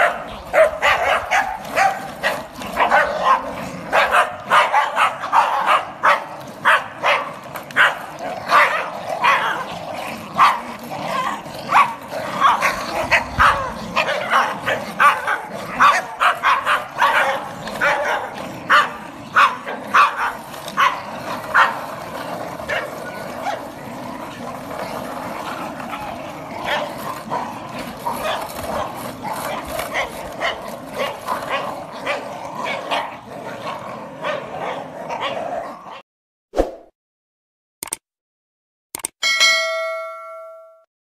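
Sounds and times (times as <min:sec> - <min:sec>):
small dogs yapping and barking: 0:00.0 - 0:36.0.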